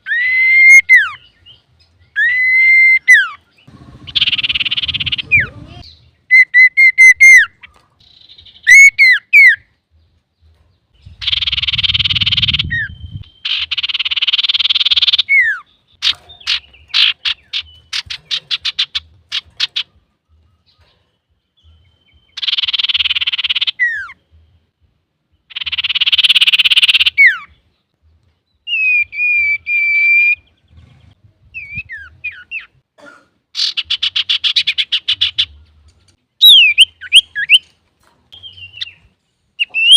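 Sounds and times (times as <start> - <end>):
bird singing: 0.0 - 32.8, 33.6 - 39.9.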